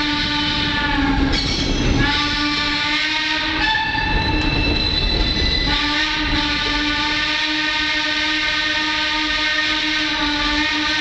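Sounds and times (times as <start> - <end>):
moving train rumble: 0.0 - 11.0
train wheels squealing on rails: 0.0 - 11.0.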